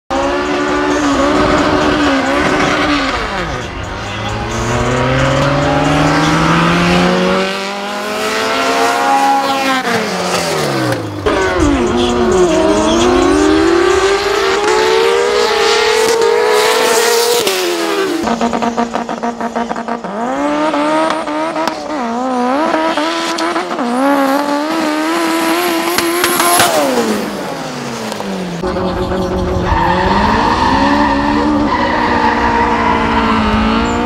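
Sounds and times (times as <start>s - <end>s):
race engines revving: 0.1s - 34.0s
sport motorcycles revving: 0.1s - 34.0s.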